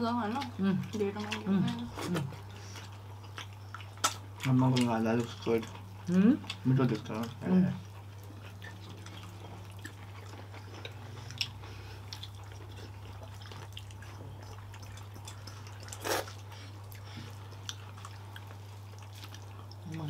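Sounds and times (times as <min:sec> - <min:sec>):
soft chewing: 0:00.0 - 0:20.0
steady low hum: 0:00.0 - 0:20.0.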